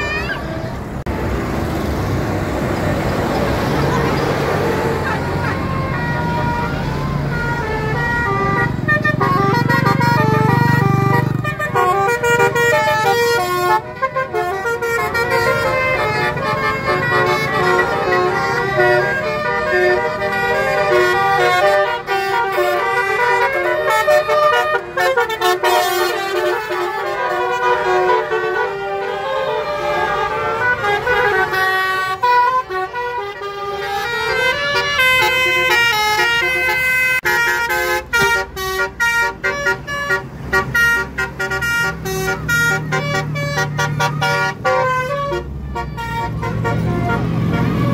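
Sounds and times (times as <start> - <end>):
musical bus air horns: 3.6 - 47.9.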